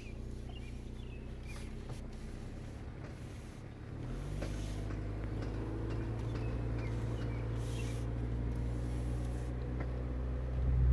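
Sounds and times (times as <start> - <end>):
car engine accelerating: 0.6 - 10.9.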